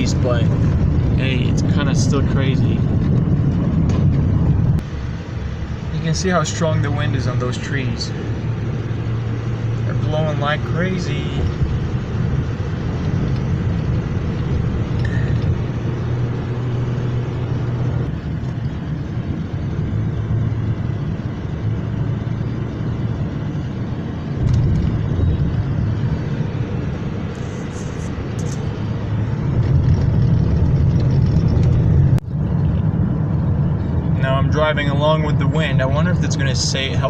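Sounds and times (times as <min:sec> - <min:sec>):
car driving rumble: 0:00.0 - 0:37.0
gusty wind: 0:00.0 - 0:37.0.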